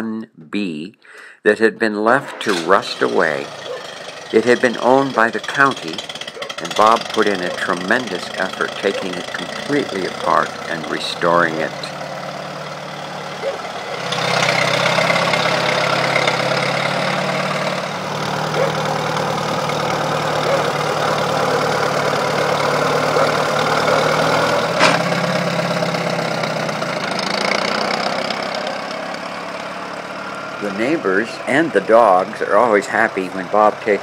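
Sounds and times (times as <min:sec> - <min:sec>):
tractor engine running: 0:02.0 - 0:34.0.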